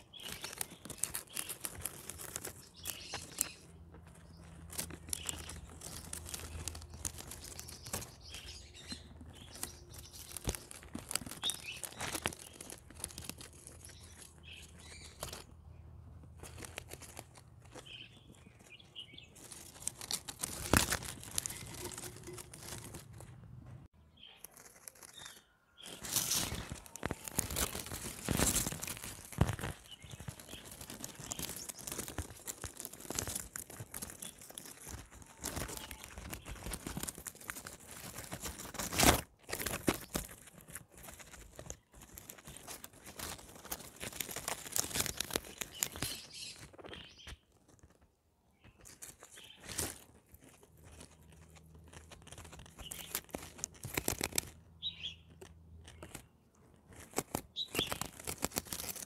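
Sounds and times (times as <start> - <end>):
guinea pigs crunching greens: 0.0 - 59.0.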